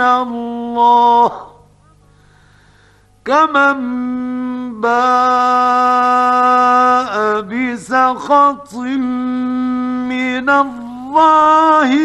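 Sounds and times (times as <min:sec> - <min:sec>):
man chanting melodically: 0:00.0 - 0:01.6, 0:03.2 - 0:12.0.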